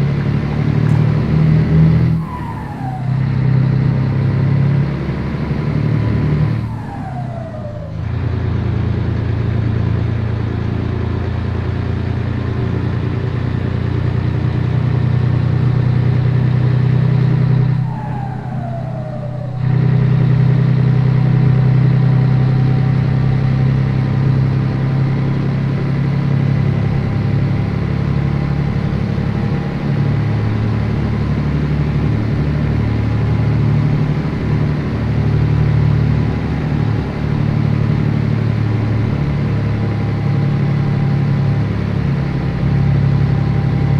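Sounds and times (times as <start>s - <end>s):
diesel truck engine under load: 0.0s - 43.9s.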